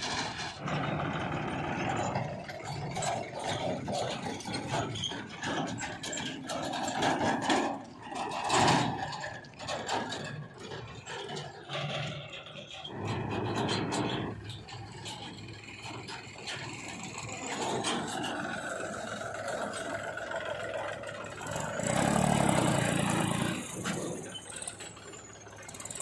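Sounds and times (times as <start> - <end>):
machinery engine running unevenly: 0.0 - 26.0
scraping and rattling of digging: 0.0 - 26.0.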